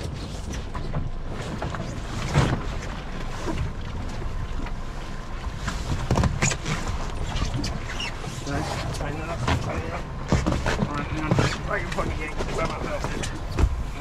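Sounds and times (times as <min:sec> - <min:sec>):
water sloshing against boat hull: 0:00.0 - 0:14.0.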